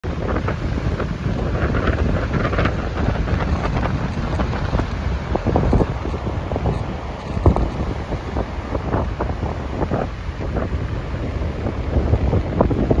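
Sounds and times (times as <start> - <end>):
surf breaking on rocks: 0.0 - 13.0
wind buffeting microphone: 0.0 - 13.0.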